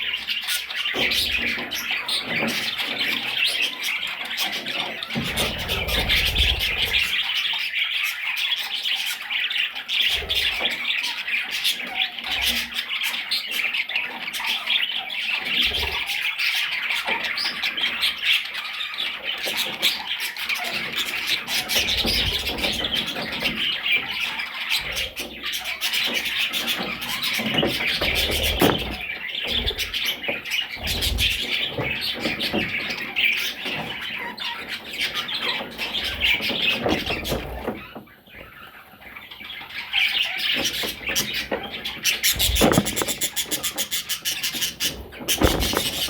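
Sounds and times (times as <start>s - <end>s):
budgerigars chattering and chirping: 0.0s - 46.0s.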